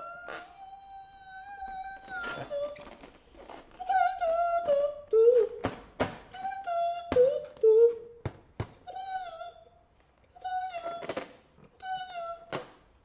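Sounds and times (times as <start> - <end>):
person singing high notes: 0.0 - 3.1, 3.7 - 5.7, 6.3 - 8.2, 8.8 - 12.7.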